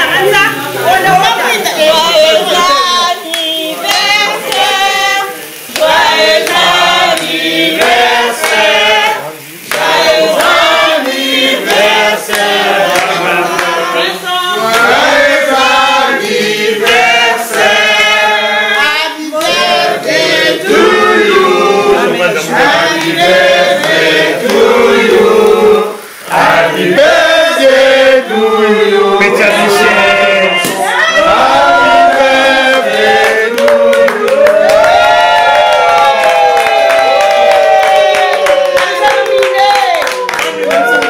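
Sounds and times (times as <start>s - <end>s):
people singing a birthday song: 0.0s - 41.0s.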